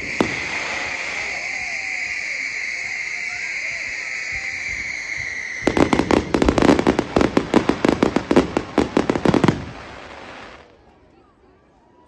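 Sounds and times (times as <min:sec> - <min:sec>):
firework whistle: 0:00.0 - 0:10.4
firework crackling bangs: 0:00.0 - 0:10.6.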